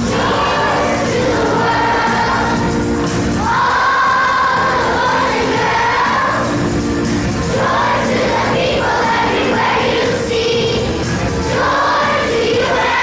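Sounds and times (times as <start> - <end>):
children's choir singing: 0.0 - 13.0
instrumental accompaniment: 0.0 - 13.0.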